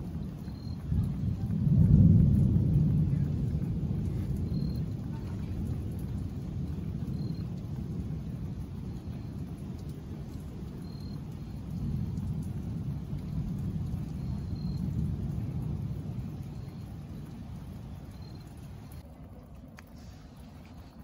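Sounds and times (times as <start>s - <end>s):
distant thunder rumbling: 0.0s - 21.0s.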